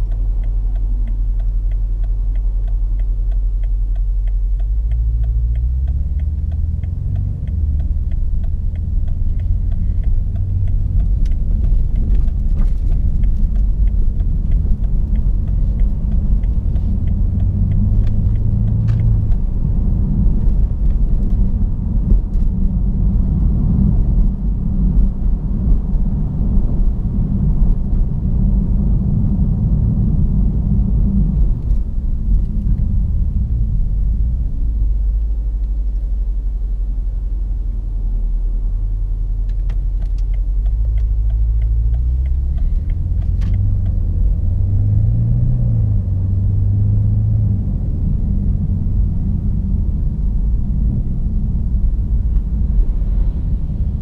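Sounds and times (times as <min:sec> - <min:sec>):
car engine idling and revving: 0:00.0 - 0:54.0
deep exhaust rumble: 0:00.0 - 0:54.0.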